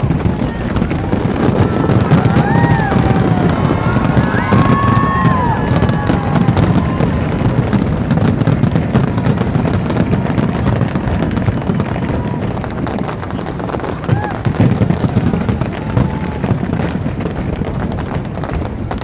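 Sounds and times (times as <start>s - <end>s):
fireworks crackling and banging: 0.0s - 19.0s
fireworks whistles: 0.0s - 19.0s.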